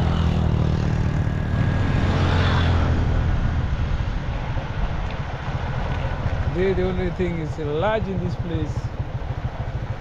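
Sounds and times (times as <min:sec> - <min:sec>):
road and wind noise: 0:00.0 - 0:10.0
vehicle engine hum: 0:00.0 - 0:10.0.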